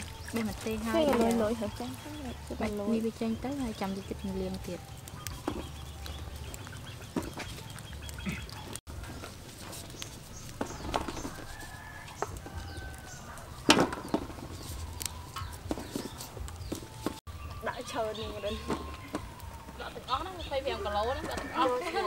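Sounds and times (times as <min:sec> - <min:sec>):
chickens clucking: 0:00.0 - 0:16.8, 0:18.0 - 0:22.0.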